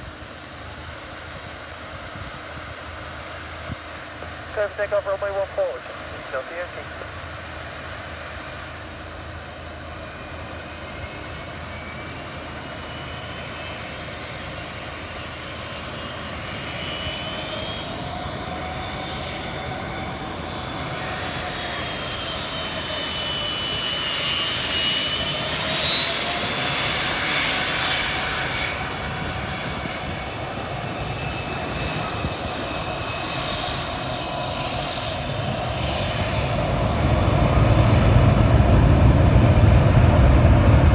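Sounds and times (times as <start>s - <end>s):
aircraft engines with whining tones: 0.0s - 40.9s.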